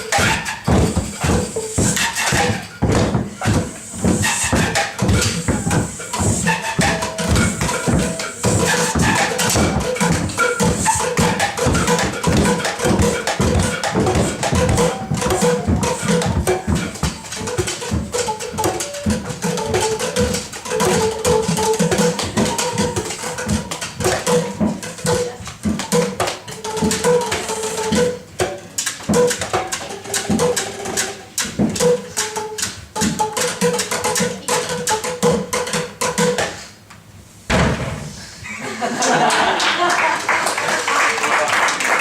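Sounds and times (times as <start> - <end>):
short pitched percussion notes: 0.0 - 36.4
percussion taps and knocks: 0.0 - 38.0.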